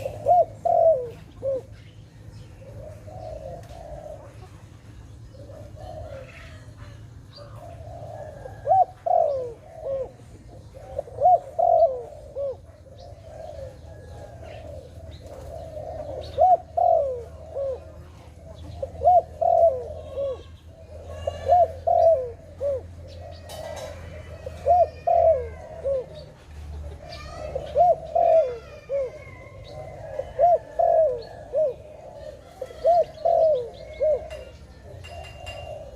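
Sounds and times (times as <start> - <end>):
dove cooing: 0.0 - 35.9.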